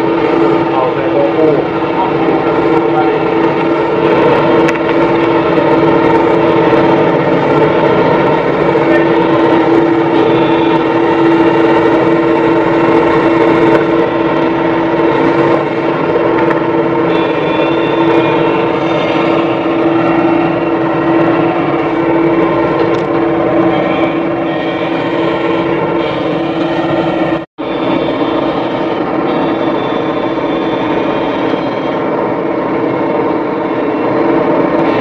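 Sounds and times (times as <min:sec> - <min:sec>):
diesel engine straining: 0:00.0 - 0:35.0
high-pitched whine: 0:00.0 - 0:35.0.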